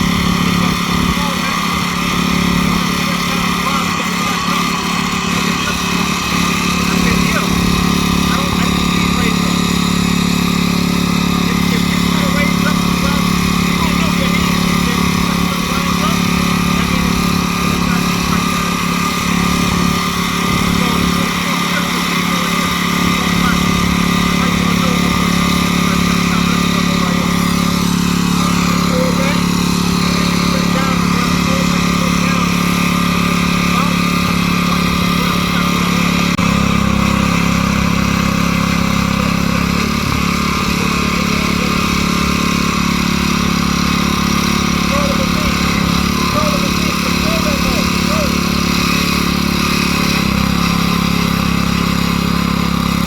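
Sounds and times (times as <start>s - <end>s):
rototiller engine running: 0.0s - 53.0s.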